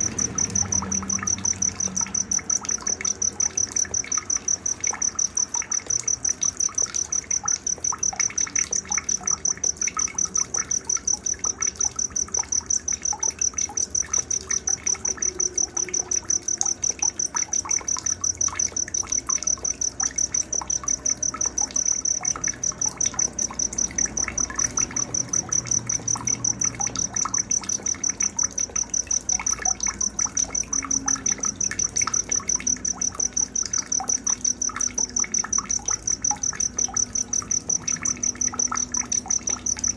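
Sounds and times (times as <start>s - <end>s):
cricket chirping: 0.0s - 39.9s
faint trickle of water: 0.0s - 39.9s.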